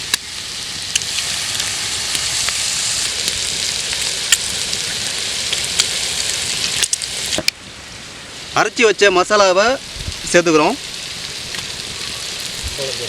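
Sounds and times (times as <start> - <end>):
food frying in hot oil: 0.0 - 13.0
oil popping and crackling: 0.0 - 13.0.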